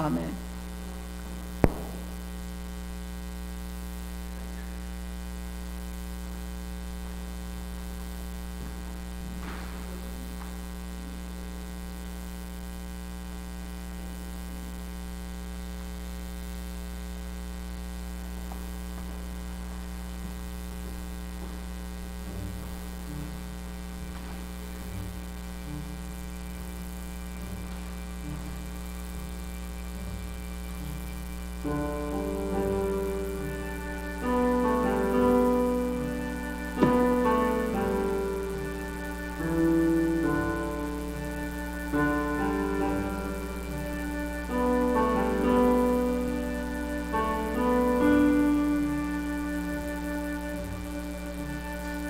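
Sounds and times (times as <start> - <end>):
mains hum: 0.0 - 52.0.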